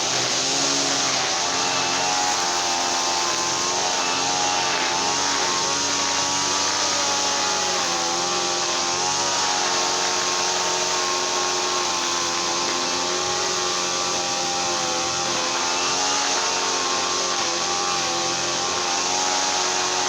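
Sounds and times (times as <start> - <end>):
brush cutter engine running: 0.0 - 20.0.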